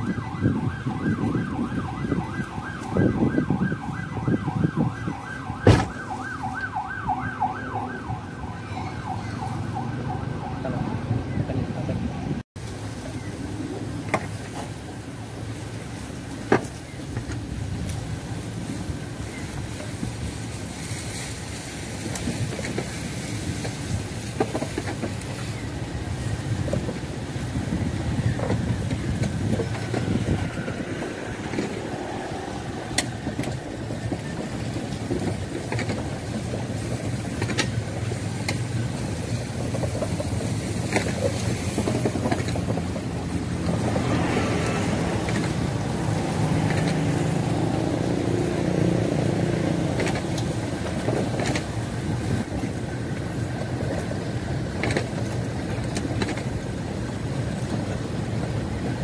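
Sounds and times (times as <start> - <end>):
wagons rumbling on rails: 0.0 - 59.0.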